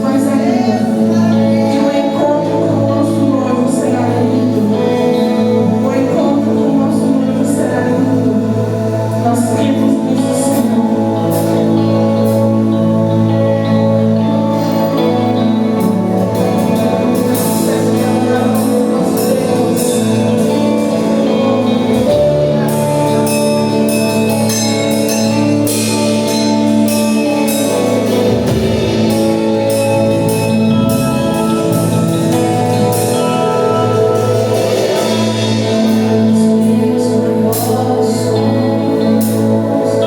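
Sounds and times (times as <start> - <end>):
live worship band music: 0.0 - 40.0.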